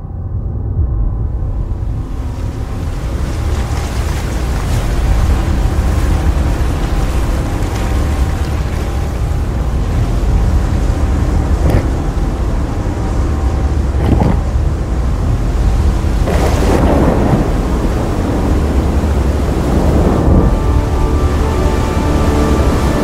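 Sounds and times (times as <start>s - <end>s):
water splashing: 2.0s - 23.0s
whitewater rapids rushing: 2.7s - 23.0s.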